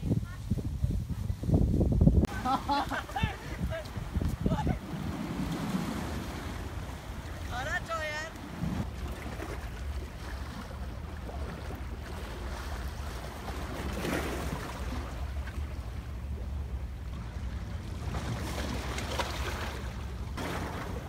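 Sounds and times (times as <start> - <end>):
wind rumbling on microphone: 0.0 - 21.0
small waves washing against rocks: 2.9 - 16.1, 17.1 - 21.0.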